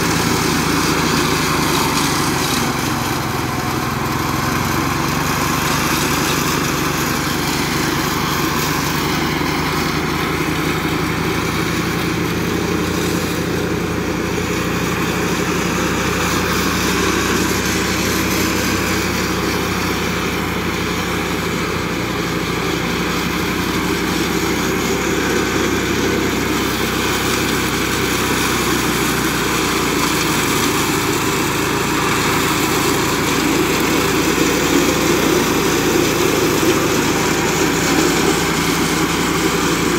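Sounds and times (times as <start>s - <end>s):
flail mower engine running: 0.0s - 39.9s.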